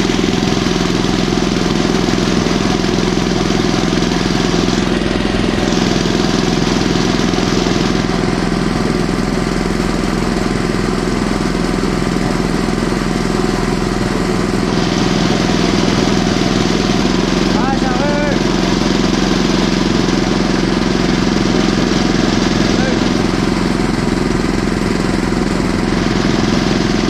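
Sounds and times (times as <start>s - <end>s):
tractor engine running steadily: 0.0s - 27.0s.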